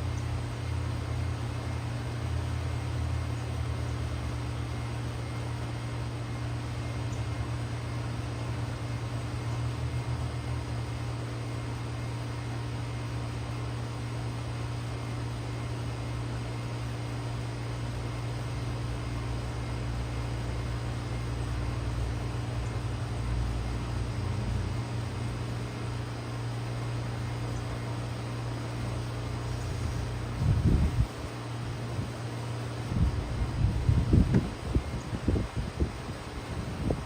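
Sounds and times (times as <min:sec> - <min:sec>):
compressor hum: 0:00.0 - 0:37.0
fan rushing: 0:00.0 - 0:37.0.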